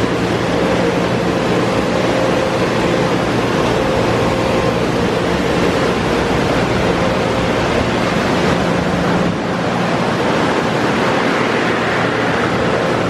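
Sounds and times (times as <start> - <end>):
air dryers blowing: 0.0 - 13.0
low motor hum: 0.0 - 13.0.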